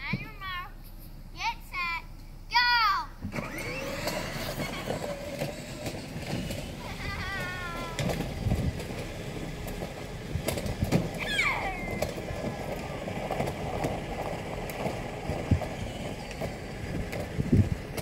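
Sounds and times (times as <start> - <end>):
car rolling rumble: 2.0 - 18.0.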